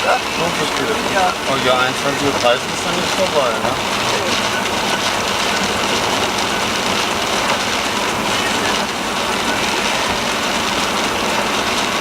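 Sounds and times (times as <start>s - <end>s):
car road noise: 0.0s - 12.0s.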